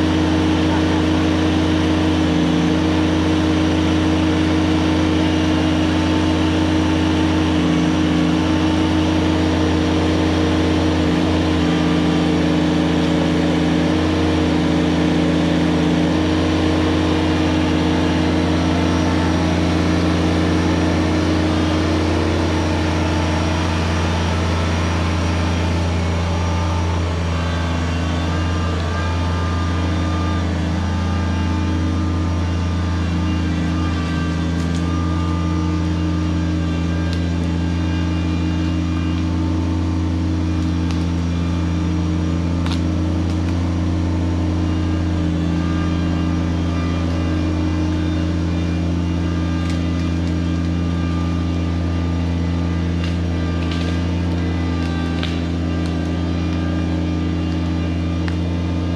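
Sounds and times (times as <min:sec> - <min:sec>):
tractor diesel engine droning: 0:00.0 - 0:58.9.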